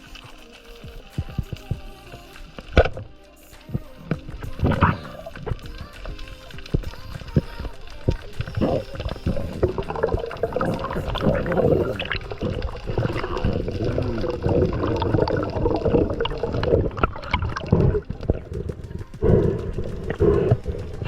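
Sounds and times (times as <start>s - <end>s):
underwater gurgling and bubbling: 0.0s - 21.0s
warbling wavering tones: 0.0s - 21.0s.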